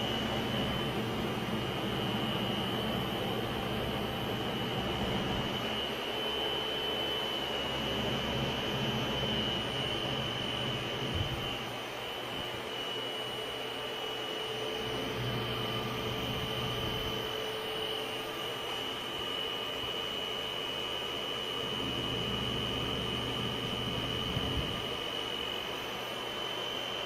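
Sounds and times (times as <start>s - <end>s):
high-pitched machine whine: 0.0s - 27.0s.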